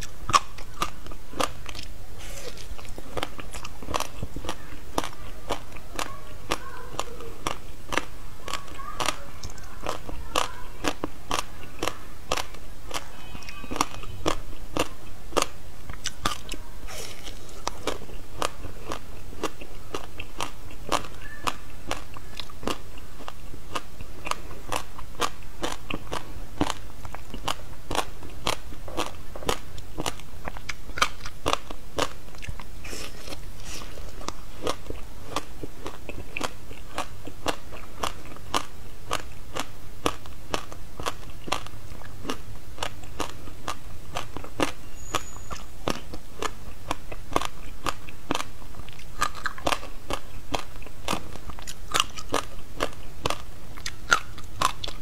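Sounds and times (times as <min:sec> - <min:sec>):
ice crunching while chewed: 0:00.0 - 0:55.0.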